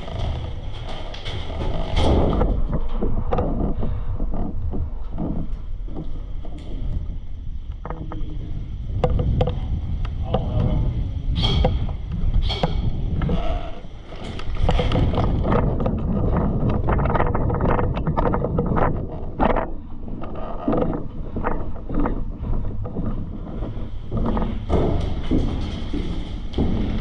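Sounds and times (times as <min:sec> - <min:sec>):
clicks and rustling: 0:00.0 - 0:27.0
microphone handling noise: 0:00.0 - 0:27.0
wind rumble on microphone: 0:00.0 - 0:27.0.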